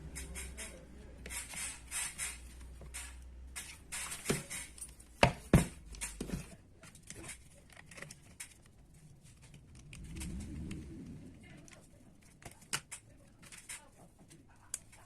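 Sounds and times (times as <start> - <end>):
hard objects clicking: 0.0 - 8.8, 9.4 - 15.0.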